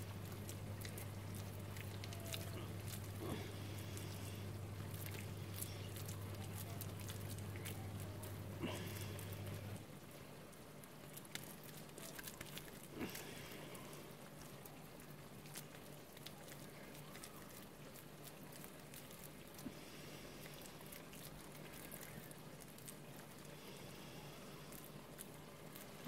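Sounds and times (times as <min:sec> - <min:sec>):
hands squishing minced meat: 0:00.0 - 0:26.0
low steady hum: 0:00.0 - 0:26.0.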